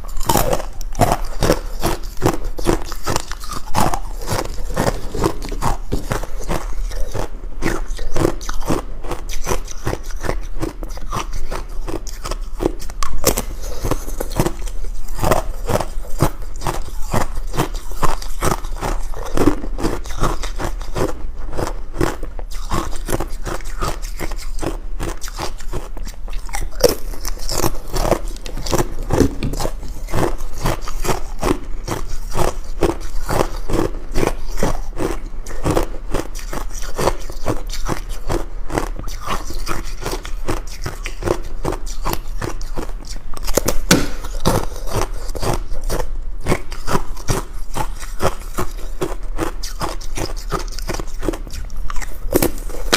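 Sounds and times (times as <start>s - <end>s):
ice cubes being chewed: 0.0s - 52.9s.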